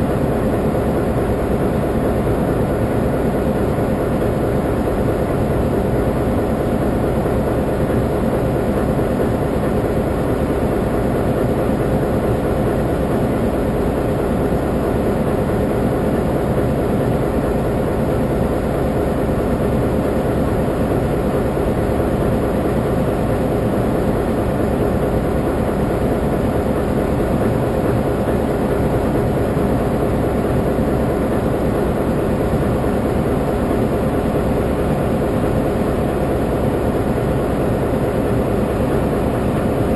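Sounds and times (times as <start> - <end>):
diesel locomotive idling: 0.0 - 39.9.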